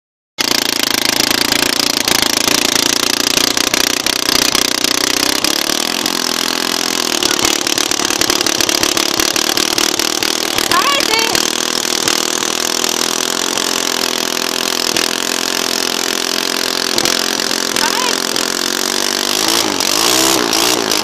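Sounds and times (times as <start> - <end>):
vehicle engine running: 0.4 - 21.0.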